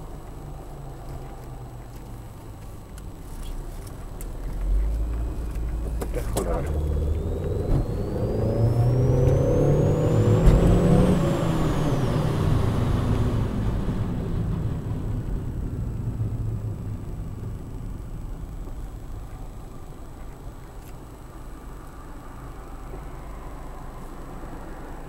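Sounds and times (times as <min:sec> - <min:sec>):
road vehicle running: 0:00.0 - 0:25.0
thin whine: 0:00.0 - 0:25.0.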